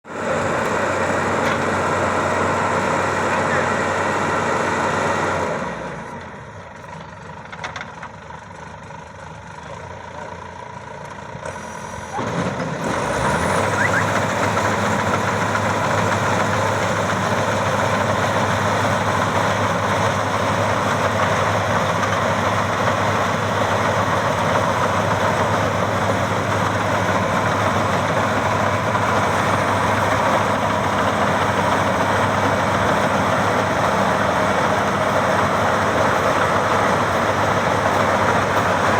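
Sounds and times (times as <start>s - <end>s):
combine harvester engine running: 0.1s - 38.9s.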